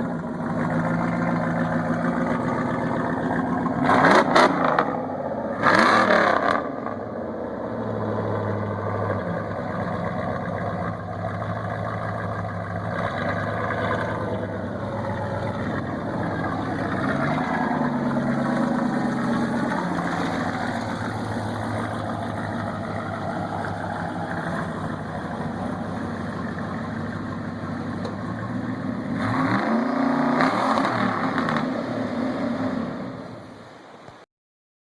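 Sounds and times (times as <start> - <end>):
truck engine revving and idling: 0.0 - 34.2.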